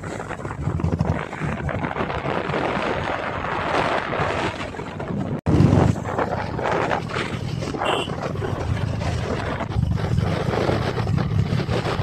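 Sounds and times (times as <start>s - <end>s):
motorcycle ride rumble: 0.0s - 12.0s
wind rushing over microphone: 0.0s - 12.0s.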